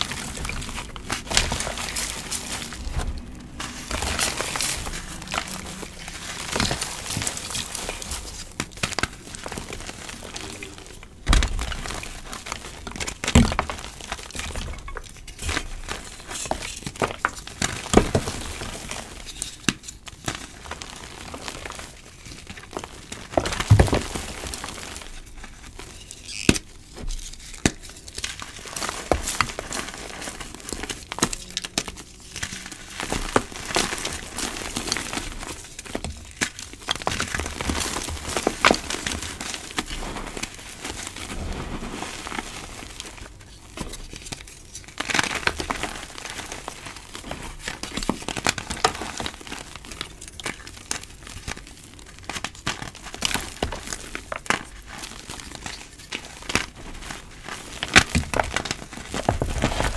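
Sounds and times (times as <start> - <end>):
hands crunching chalk: 0.0 - 25.7, 26.3 - 59.9.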